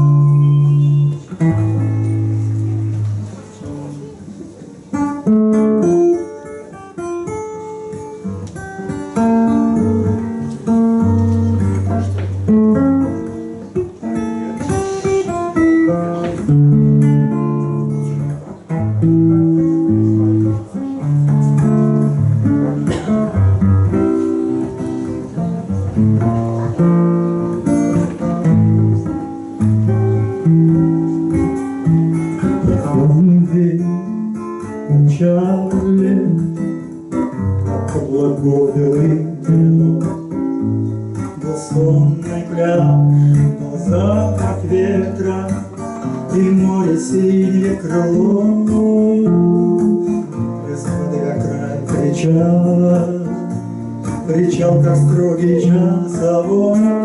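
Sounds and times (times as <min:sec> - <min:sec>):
guitar plucked and strummed: 0:00.0 - 0:57.0.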